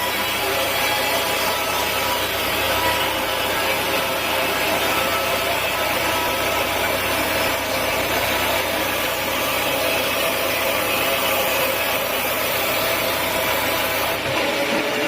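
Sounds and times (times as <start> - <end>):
sawmill saw cutting wood: 0.0 - 15.0.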